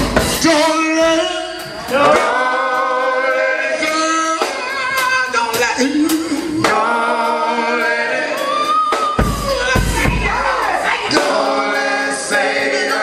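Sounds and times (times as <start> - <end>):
drum and cymbal hits: 0.0 - 13.0
voices singing gospel: 0.0 - 13.0.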